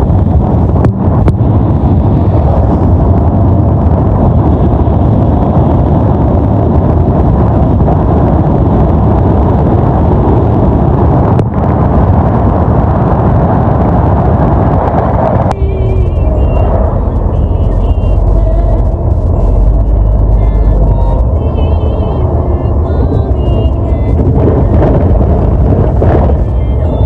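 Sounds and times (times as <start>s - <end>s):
road and engine noise: 0.0s - 27.0s
wind buffeting microphone: 0.0s - 27.0s.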